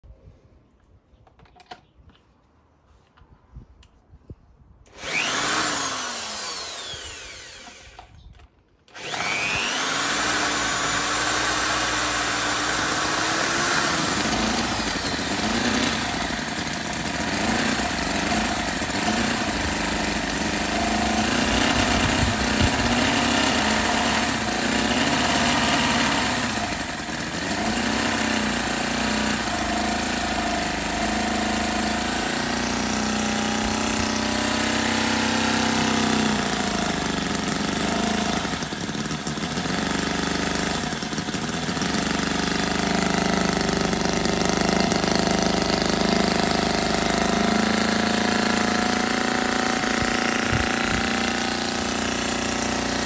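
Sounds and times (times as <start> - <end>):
model engine running: 4.9 - 8.2, 8.9 - 53.0.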